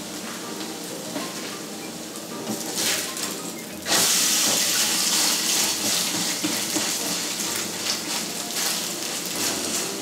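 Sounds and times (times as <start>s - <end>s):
hot oil sizzling in frying pan: 0.0s - 10.0s.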